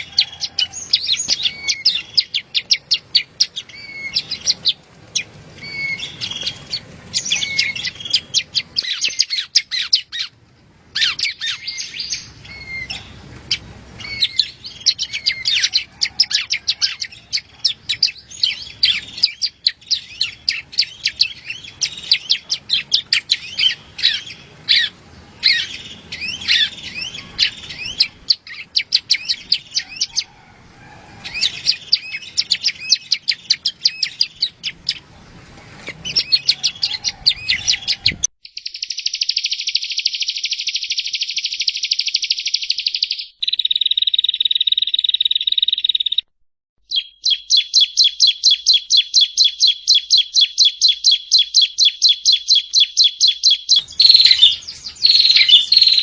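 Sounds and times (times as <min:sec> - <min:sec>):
bird singing sharp high chirps: 0:00.0 - 0:10.3, 0:11.0 - 0:13.1, 0:14.0 - 0:15.8, 0:17.8 - 0:30.2, 0:36.1 - 0:56.0.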